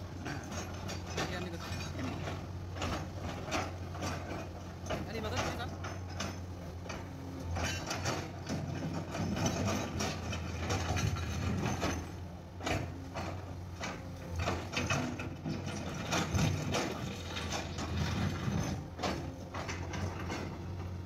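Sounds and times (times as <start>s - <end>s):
excavator diesel engine running: 0.0s - 21.0s
knocks and rattles: 0.1s - 21.0s.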